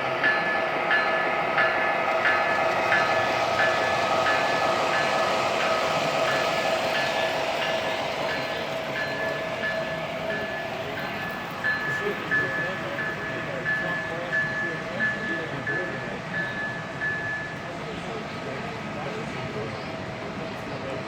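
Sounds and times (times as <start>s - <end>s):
model train whine: 0.0s - 21.0s.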